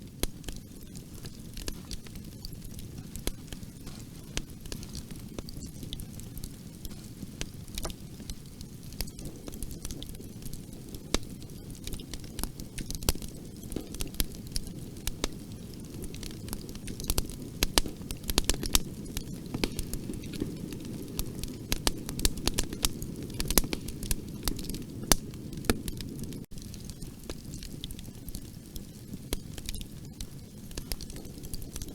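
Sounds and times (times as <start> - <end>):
burning wood crackling and popping: 0.0 - 31.9
flames rumbling: 0.0 - 31.9.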